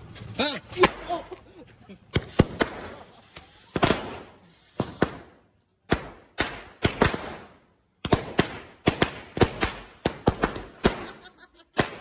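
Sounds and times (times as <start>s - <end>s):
firecrackers banging: 0.0s - 12.0s.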